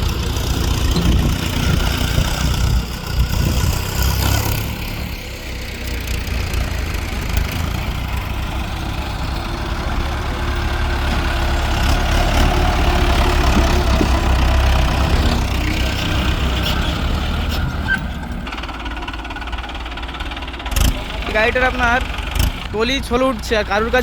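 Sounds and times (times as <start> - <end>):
diesel tractor engine running hard: 0.0 - 24.0.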